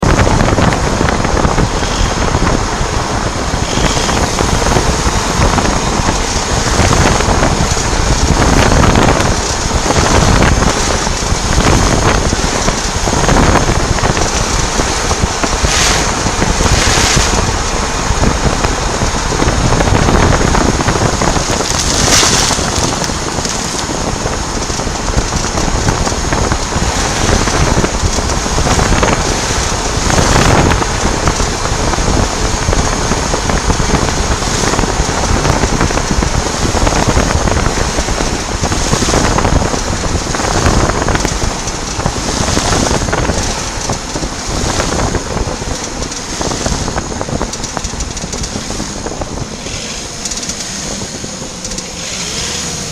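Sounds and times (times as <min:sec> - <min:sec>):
fast drivetrain ticking: 0:00.0 - 0:52.9
road and wind noise: 0:00.0 - 0:52.9.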